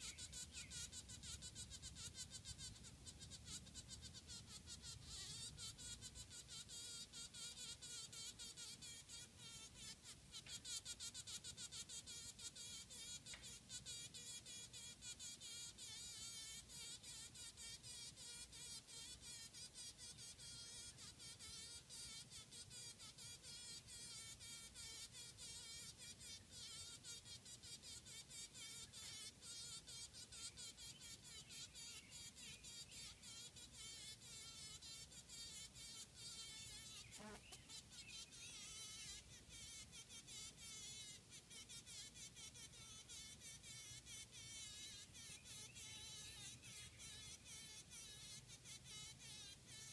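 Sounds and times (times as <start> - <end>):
bee buzzing faintly: 0.0 - 49.9.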